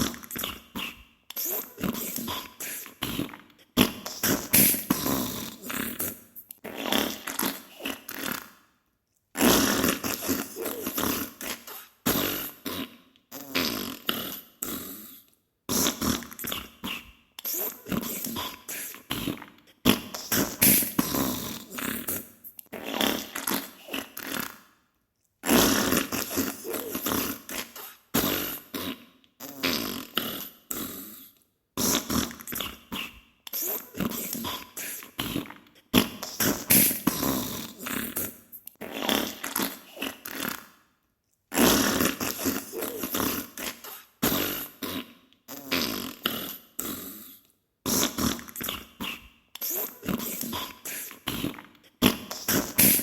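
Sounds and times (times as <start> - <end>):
wet sputtering fart noises: 0.0 - 8.6, 9.4 - 15.1, 15.7 - 24.7, 25.4 - 31.0, 31.8 - 40.8, 41.5 - 47.2, 47.9 - 53.0.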